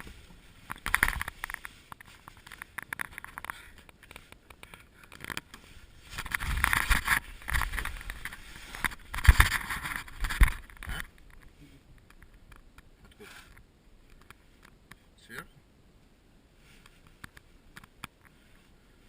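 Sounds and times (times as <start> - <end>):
rustling and scraping: 0.0 - 14.8, 16.6 - 19.0.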